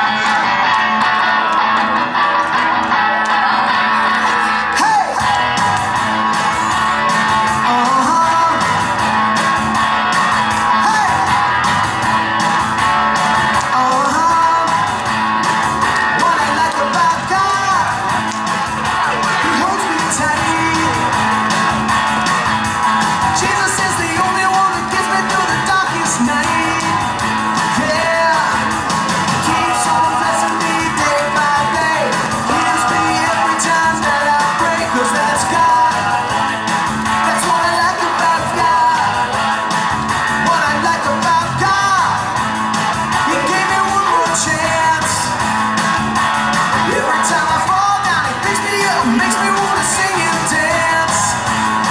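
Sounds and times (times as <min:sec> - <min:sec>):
music with strummed guitar: 0:00.0 - 0:51.9.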